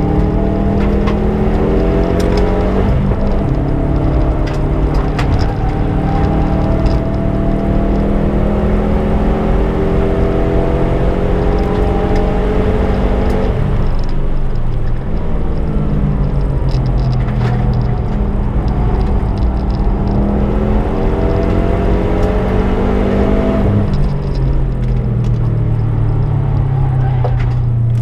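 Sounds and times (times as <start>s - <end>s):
turbocharged car engine accelerating: 0.0s - 28.0s.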